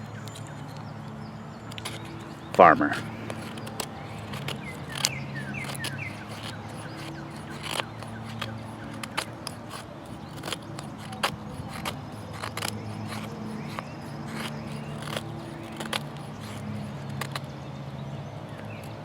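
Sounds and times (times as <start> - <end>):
sharp clicks and scrapes of knife: 0.0 - 17.7.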